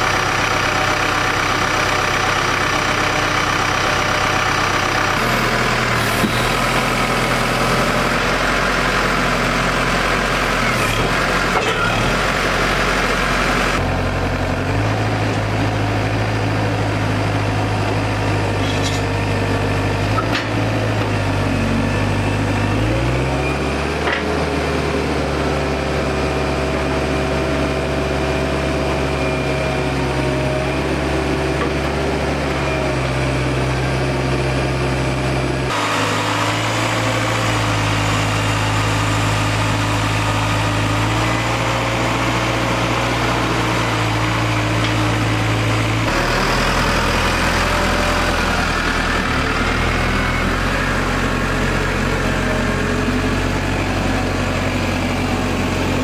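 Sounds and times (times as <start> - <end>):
telehandler engine running: 0.0 - 56.0.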